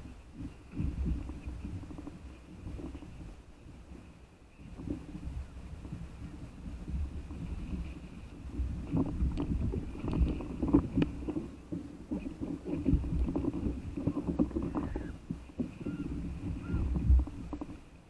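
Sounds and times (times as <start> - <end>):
water sloshing against paddle board: 0.0 - 18.0.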